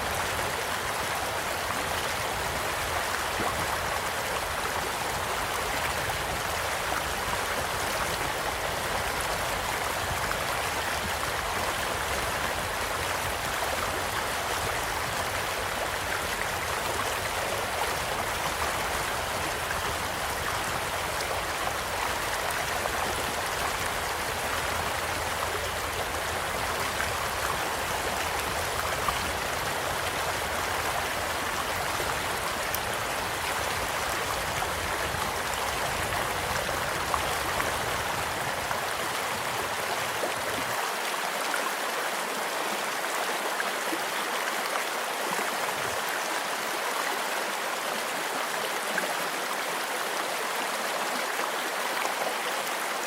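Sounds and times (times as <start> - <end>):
small stream flowing: 0.0 - 53.0.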